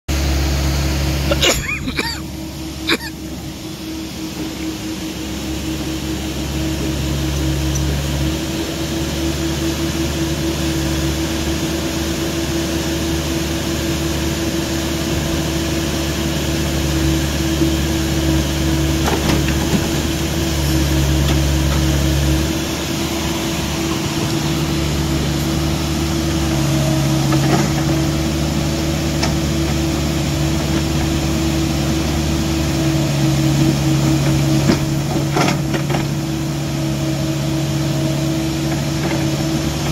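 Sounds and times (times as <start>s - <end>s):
excavator diesel engine droning: 0.1s - 39.9s.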